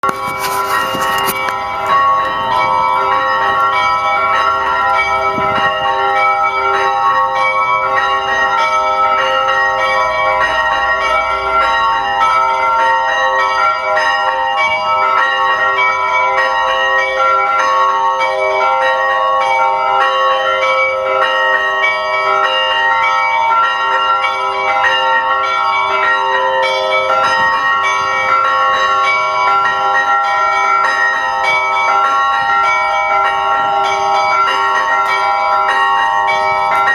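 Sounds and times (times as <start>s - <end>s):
large bells ringing: 0.0s - 36.9s.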